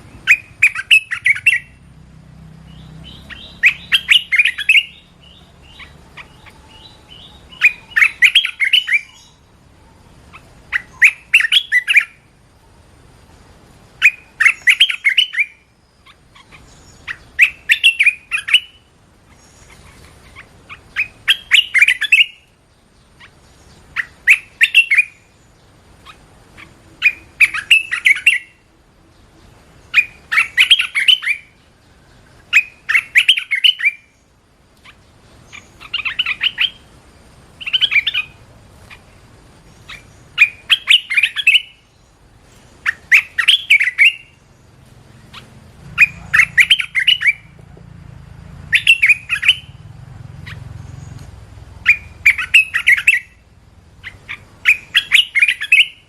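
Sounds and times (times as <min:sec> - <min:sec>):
bird singing bubbling phrases: 0:00.0 - 0:01.8, 0:02.7 - 0:12.3, 0:14.0 - 0:47.5, 0:48.7 - 0:50.7, 0:51.8 - 0:56.0.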